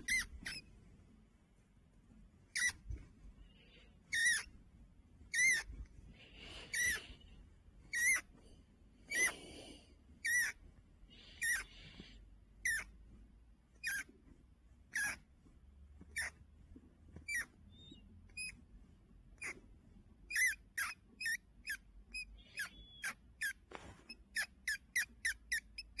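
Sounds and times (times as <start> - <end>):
rat squeaking: 0.0 - 0.8, 2.4 - 4.6, 5.2 - 8.4, 9.0 - 26.0.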